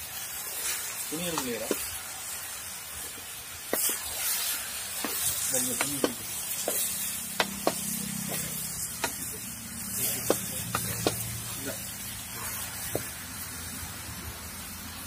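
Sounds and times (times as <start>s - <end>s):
chicken sizzling in pan: 0.0s - 15.0s.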